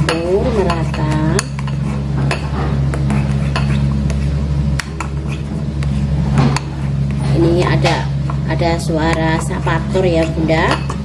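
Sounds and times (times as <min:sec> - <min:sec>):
road repair machinery drone: 0:00.0 - 0:11.0
spoon stirring batter in bowl: 0:00.0 - 0:11.0.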